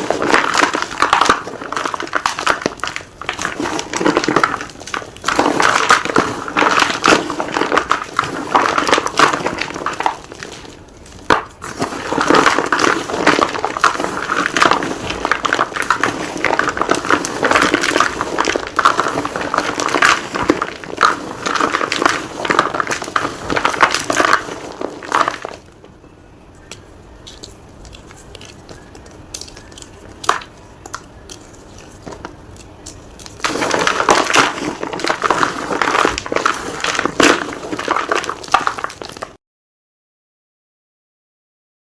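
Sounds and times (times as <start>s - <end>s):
chalk being crunched: 0.0s - 25.8s, 26.6s - 39.4s.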